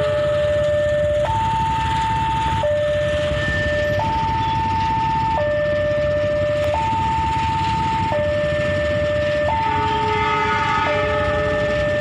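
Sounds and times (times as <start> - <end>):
level crossing two-tone alarm: 0.0 - 12.0
motorcycle engines idling: 0.0 - 12.0.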